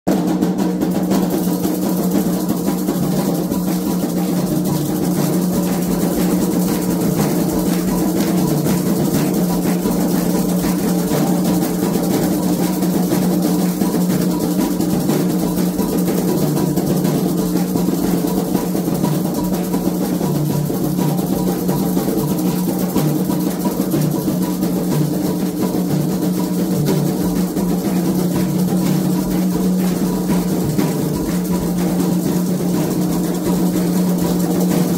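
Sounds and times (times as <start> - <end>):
fast hand drumming: 0.1 - 34.9
other percussion: 0.1 - 34.9.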